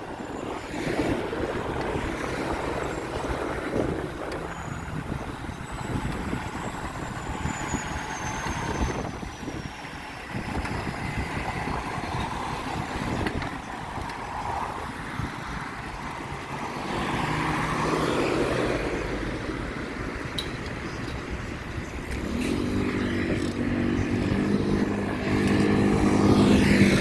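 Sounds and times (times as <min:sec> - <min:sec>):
road traffic passing: 0:00.0 - 0:27.0
wind rumbling on microphone: 0:00.0 - 0:27.0.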